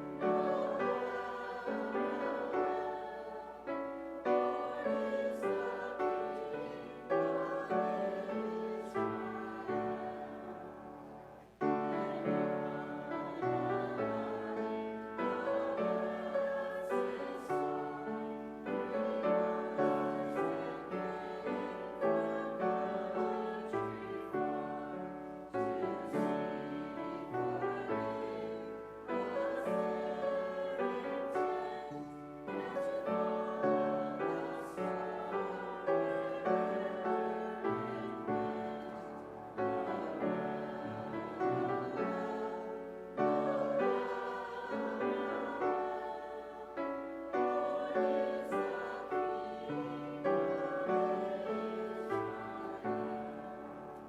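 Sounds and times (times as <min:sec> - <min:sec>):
piano chords ringing: 0:00.0 - 0:54.0.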